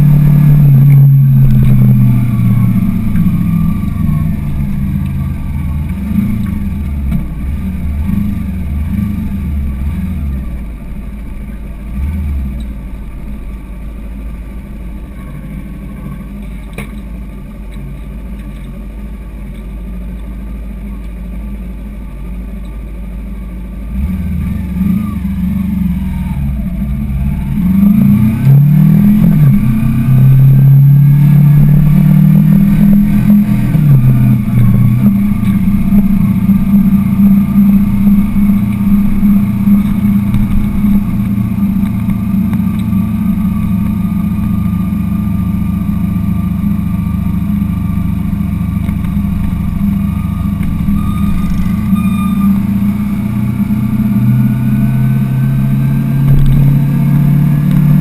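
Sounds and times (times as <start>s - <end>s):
motorcycle engine revving: 0.0s - 13.2s, 23.9s - 58.0s.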